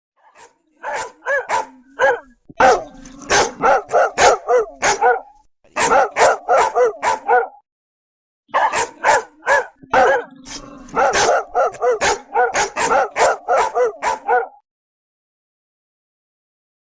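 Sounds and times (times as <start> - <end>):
large dog barking: 0.2 - 7.6, 8.5 - 14.6.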